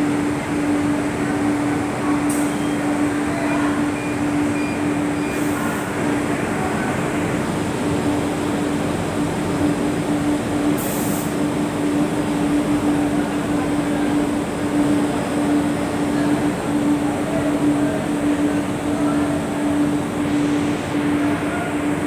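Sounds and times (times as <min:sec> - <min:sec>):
industrial washing machines running: 0:00.0 - 0:22.0.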